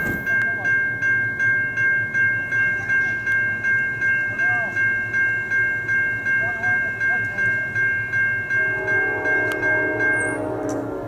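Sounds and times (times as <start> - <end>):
railroad crossing bell ringing: 0.0 - 11.0
train rumbling: 0.0 - 11.0.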